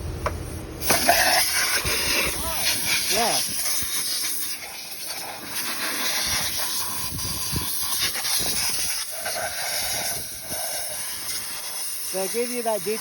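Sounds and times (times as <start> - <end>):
rushing air hiss: 0.8 - 13.0.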